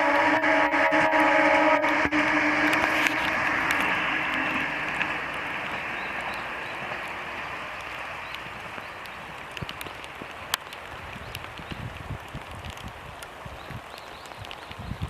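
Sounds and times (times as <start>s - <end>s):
diesel train passing: 0.0s - 12.8s
rain falling: 0.0s - 15.0s.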